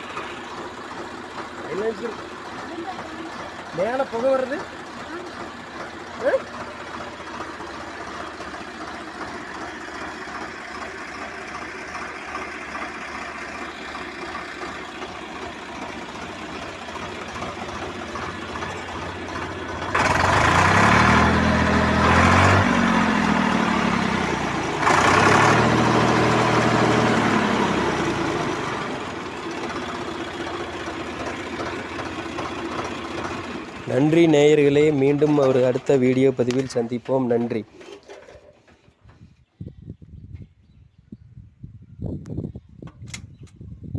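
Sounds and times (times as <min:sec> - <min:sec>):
tractor engine revving: 0:00.0 - 0:38.9
tractor diesel engine idling: 0:00.0 - 0:39.2.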